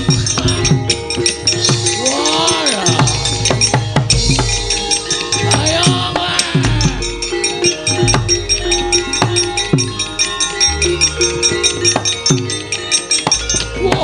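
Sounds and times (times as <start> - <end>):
gamelan fight music: 0.0 - 14.0
hand drums with bending pitch: 0.0 - 14.0
ringing bronze metallophones: 0.0 - 14.0.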